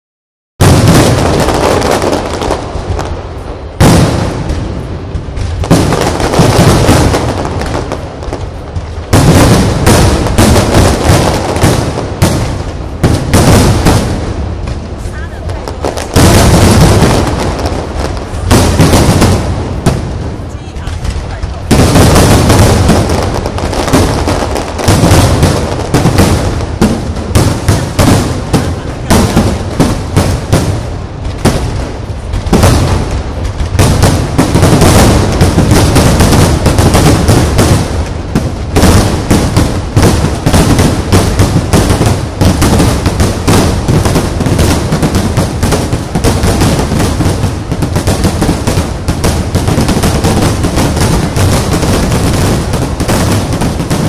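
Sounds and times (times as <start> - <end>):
fireworks bursting and crackling: 0.6 - 54.0.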